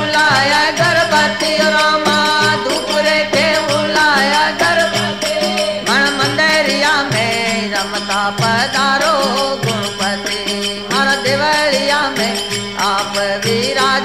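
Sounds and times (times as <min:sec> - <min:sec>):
steady drone: 0:00.0 - 0:12.8
regular drum beat: 0:00.0 - 0:14.0.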